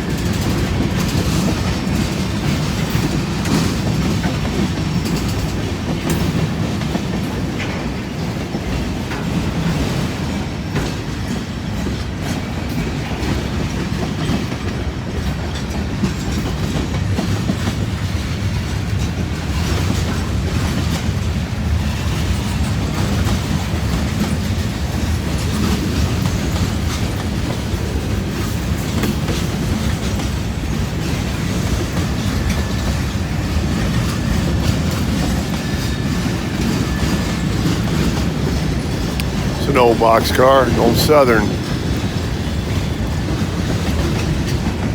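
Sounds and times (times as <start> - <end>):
freight train rolling past: 0.0 - 44.9.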